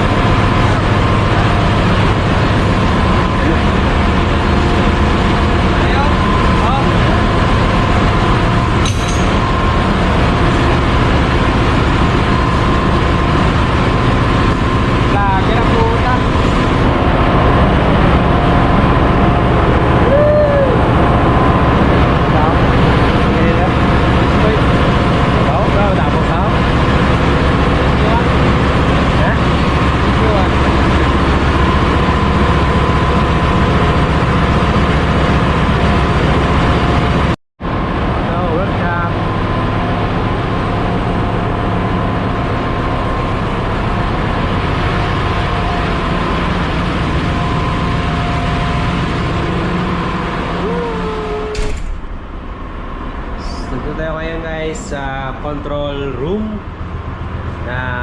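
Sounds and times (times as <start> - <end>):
engine-room machinery din: 0.0 - 58.0
faint steady whine: 0.0 - 58.0
steady high hum: 0.0 - 58.0.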